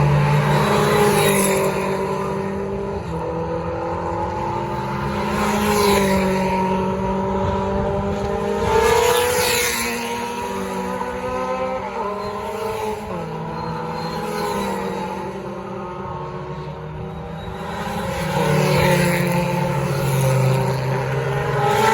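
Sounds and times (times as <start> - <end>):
racing car engines passing: 0.0 - 21.9.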